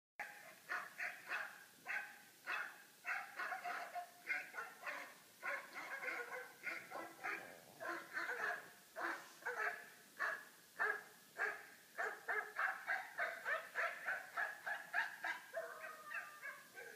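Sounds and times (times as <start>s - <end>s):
small dogs barking: 0.2s - 16.9s.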